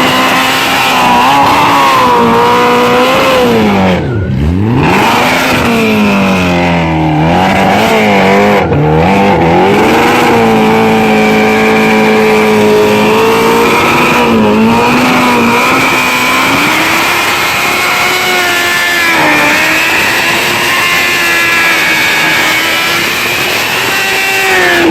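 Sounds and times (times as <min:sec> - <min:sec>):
motorcycle engine at high revs: 0:00.0 - 0:24.9.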